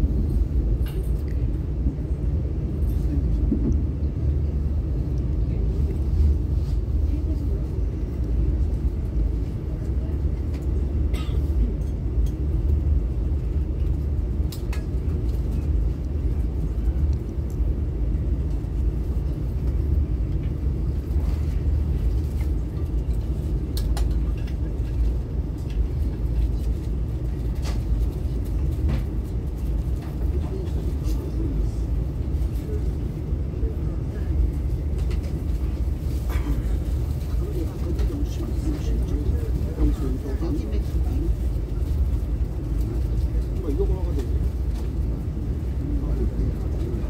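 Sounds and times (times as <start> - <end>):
train rumbling: 0.0 - 47.0.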